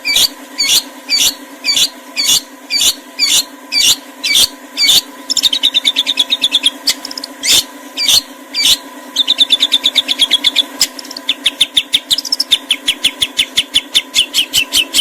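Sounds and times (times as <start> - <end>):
bird trill: 0.0 - 15.0
songbird calling harsh notes: 0.0 - 15.0
steady hum: 0.0 - 15.0.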